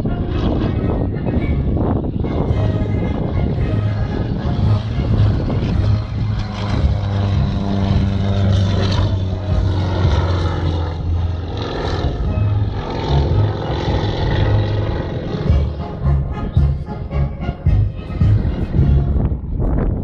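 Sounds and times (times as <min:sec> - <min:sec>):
small plane engine and propeller: 0:00.0 - 0:20.0.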